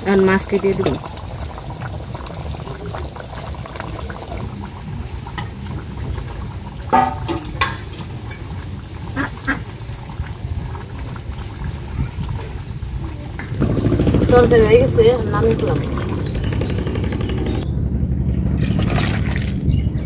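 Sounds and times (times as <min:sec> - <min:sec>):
curry bubbling in a pan: 0:00.0 - 0:16.4.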